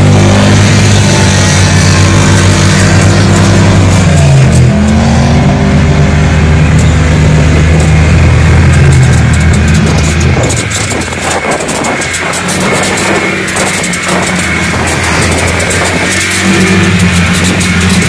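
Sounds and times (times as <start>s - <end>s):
truck engine revving high: 0.0s - 18.0s.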